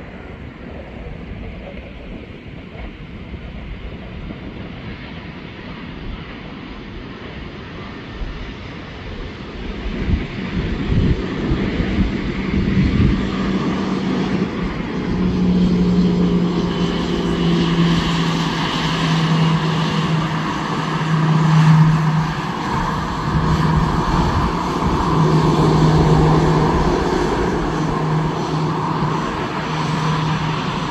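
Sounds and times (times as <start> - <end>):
jet engines humming and whining: 0.0 - 30.9.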